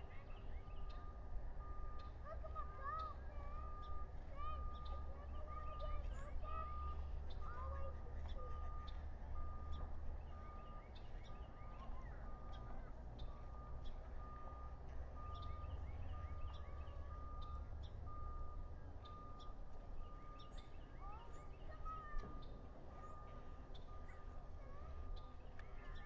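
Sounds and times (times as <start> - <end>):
constant low rumble: 0.0 - 26.0.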